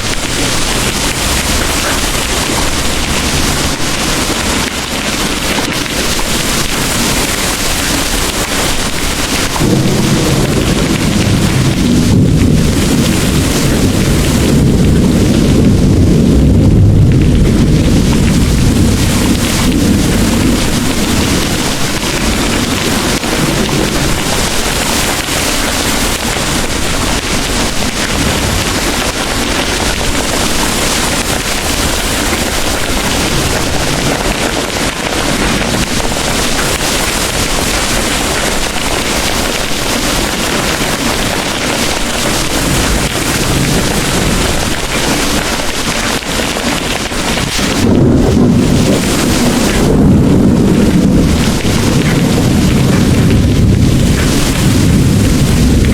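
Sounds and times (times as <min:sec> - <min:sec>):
heavy rain pouring: 0:00.0 - 0:55.9
thunder rumbling: 0:00.0 - 0:55.9.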